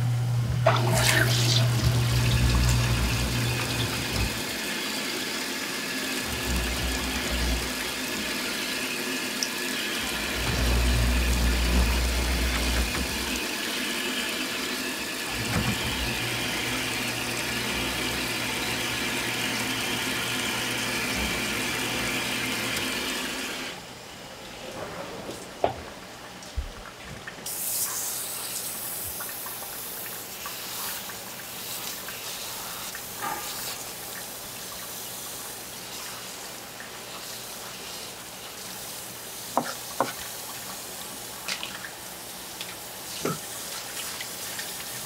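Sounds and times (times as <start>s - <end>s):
tap water running into a sink: 0.5s - 23.8s, 26.5s - 45.0s.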